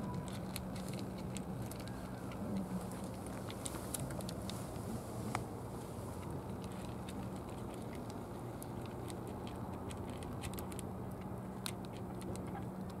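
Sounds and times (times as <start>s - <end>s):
cats crunching dry kibble: 0.0s - 13.0s
steady low hum: 0.0s - 13.0s.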